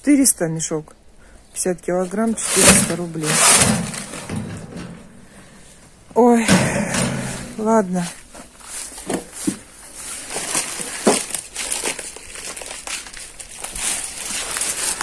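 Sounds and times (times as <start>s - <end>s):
crinkling and rustling: 1.8s - 15.0s.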